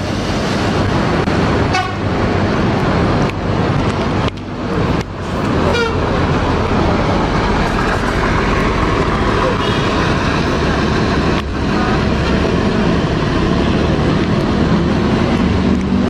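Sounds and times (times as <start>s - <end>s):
coach engine and road noise: 0.0s - 16.0s.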